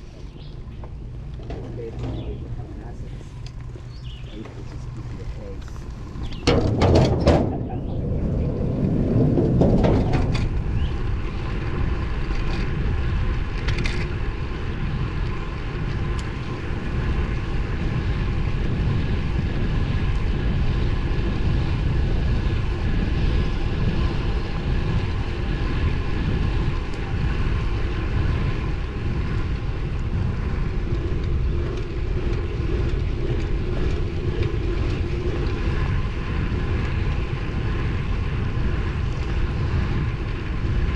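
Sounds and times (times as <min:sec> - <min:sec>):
bike road noise: 0:00.0 - 0:40.9
wind on microphone: 0:00.0 - 0:40.9.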